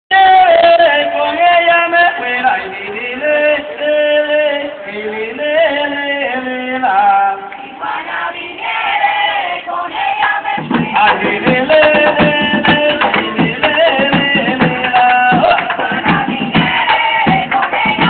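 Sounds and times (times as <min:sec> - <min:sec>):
mixed chorus singing unaccompanied: 0:00.1 - 0:18.0.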